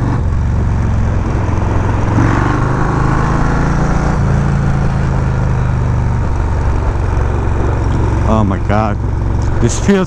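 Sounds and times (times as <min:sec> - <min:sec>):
wind noise: 0:00.0 - 0:09.9
motorcycle engine cruising: 0:00.0 - 0:10.0.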